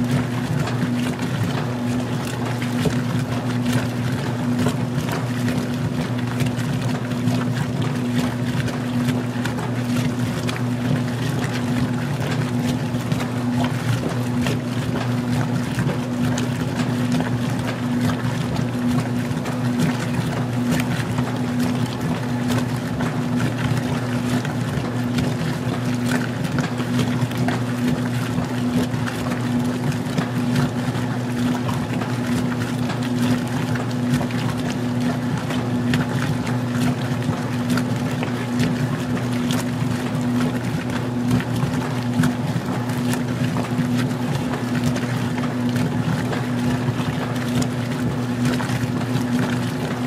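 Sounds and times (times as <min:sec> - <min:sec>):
washing machine motor humming: 0:00.0 - 0:50.0
water churning and splashing: 0:00.0 - 0:50.0.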